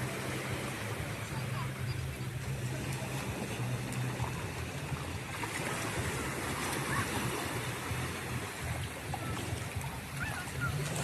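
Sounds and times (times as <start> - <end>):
sea waves rushing: 0.0 - 11.0.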